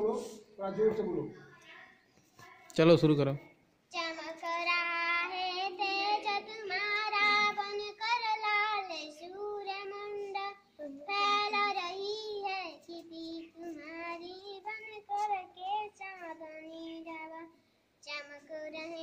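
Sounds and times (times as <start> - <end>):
girl singing unaccompanied: 3.5 - 19.0.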